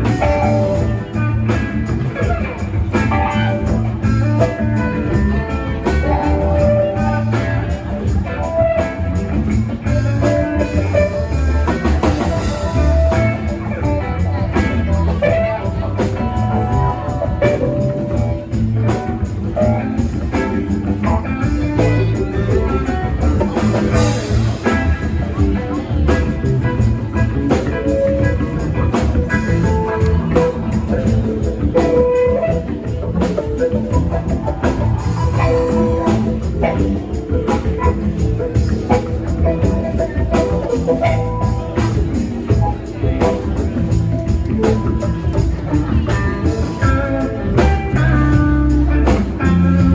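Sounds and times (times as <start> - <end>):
drum kit and bass: 0.0 - 49.9
electric guitar lines: 0.0 - 49.9.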